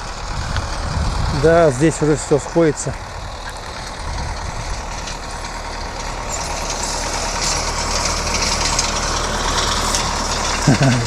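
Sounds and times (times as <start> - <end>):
tractor diesel engine humming: 0.0 - 11.0.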